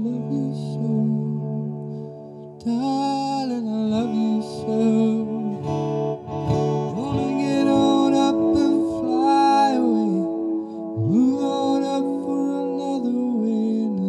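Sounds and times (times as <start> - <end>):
man singing: 0.0 - 2.0, 2.6 - 14.0
acoustic guitar with echo: 0.0 - 14.0.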